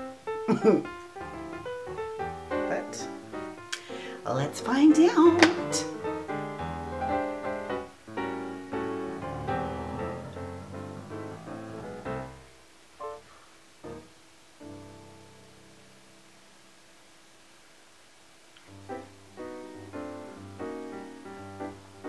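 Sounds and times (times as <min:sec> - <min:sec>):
piano music: 0:00.0 - 0:16.6, 0:18.7 - 0:22.0.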